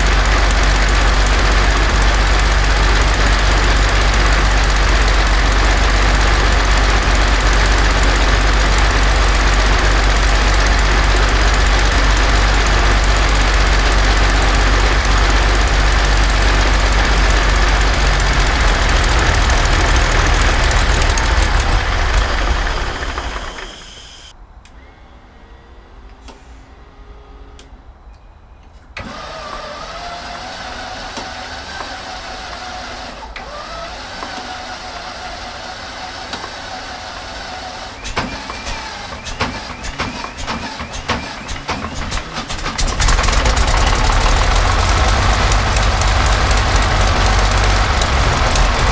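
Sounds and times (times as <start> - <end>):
propeller winding down: 0.0 - 27.8, 29.0 - 48.9
aero engine running: 0.0 - 28.2, 29.0 - 48.9.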